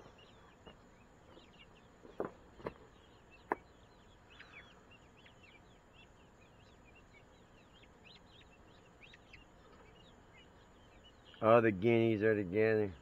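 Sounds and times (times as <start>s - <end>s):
young guinea fowl peeping: 0.0s - 13.0s.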